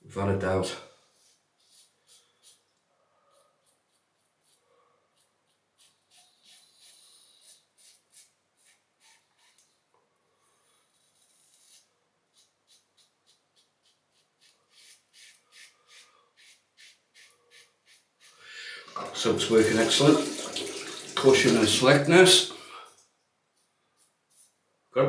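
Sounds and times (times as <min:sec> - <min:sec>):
razor scraping stubble: 0:01.2 - 0:09.8, 0:10.6 - 0:22.3.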